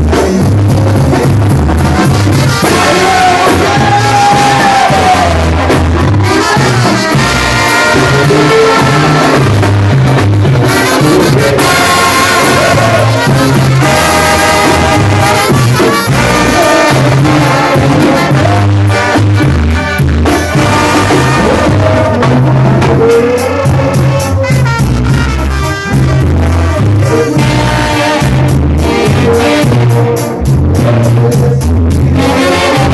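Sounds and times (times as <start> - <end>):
latin band with trumpets: 0.0 - 32.9
repeating bass line: 0.0 - 32.9.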